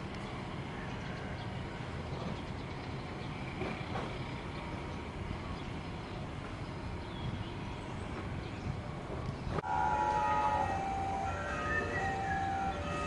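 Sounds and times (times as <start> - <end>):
train rumbling along tracks: 0.0 - 13.0.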